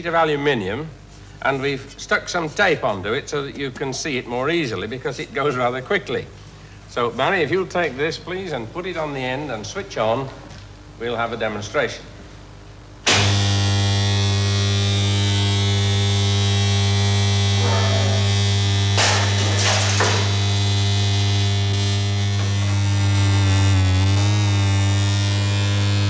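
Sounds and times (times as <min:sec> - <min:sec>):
deep electrical hum: 0:00.0 - 0:26.0.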